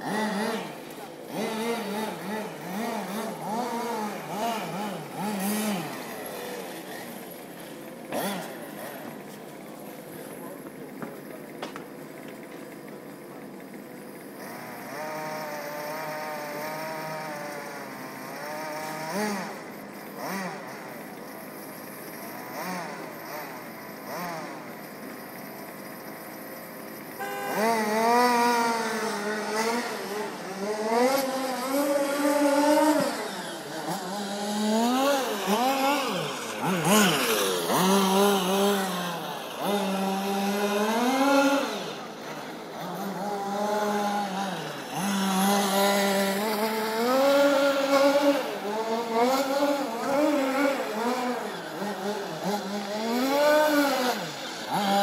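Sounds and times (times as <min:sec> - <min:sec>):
small two-stroke engine revving: 0:00.0 - 0:55.0.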